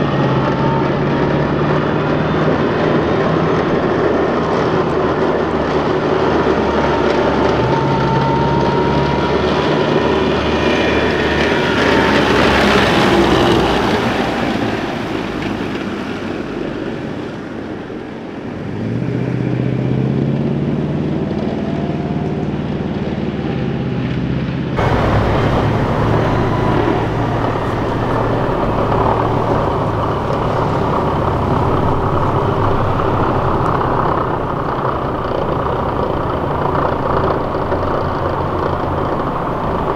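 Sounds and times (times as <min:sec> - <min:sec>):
armored vehicles driving past: 0:00.0 - 0:39.9
tracked vehicle engine accelerating: 0:00.0 - 0:39.9
vehicle engines idling: 0:00.0 - 0:39.9.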